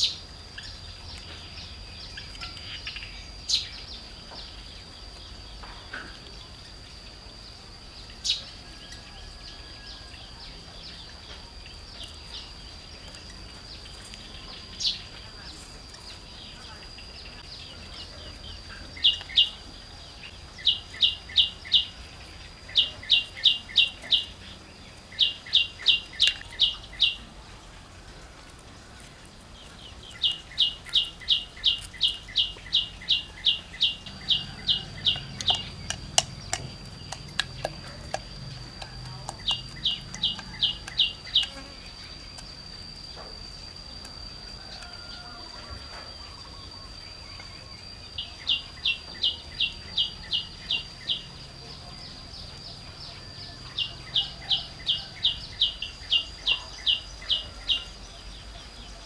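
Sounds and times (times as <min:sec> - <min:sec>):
bird chirping: 0:00.0 - 0:59.0
high insect whine: 0:00.0 - 0:59.0.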